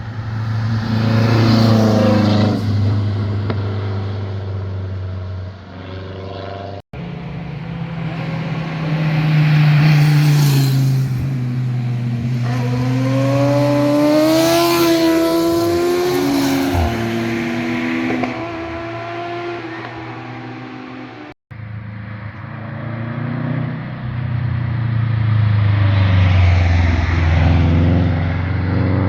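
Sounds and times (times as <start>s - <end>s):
cars accelerating past: 0.0s - 29.0s.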